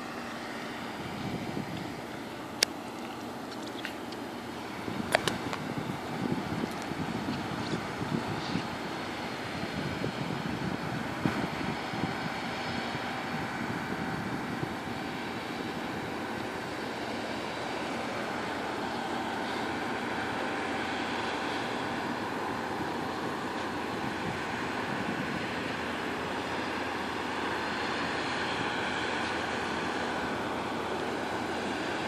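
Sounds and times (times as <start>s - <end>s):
distant combine harvester drone: 0.0s - 32.0s.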